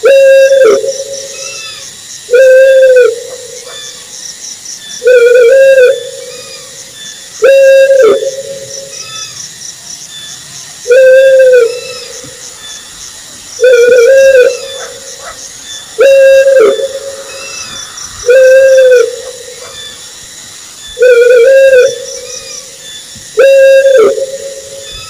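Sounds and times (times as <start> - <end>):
owl hooting: 0.0 - 4.1, 5.0 - 9.4, 10.8 - 13.0, 13.6 - 25.0.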